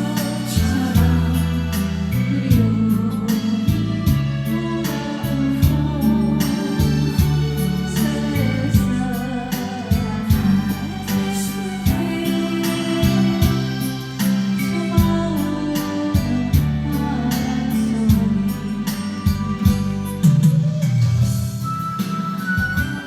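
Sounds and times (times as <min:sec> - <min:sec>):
person singing: 0:00.0 - 0:21.3
gospel music with steady beat: 0:00.0 - 0:23.0
keyboard or organ chords: 0:00.0 - 0:23.0.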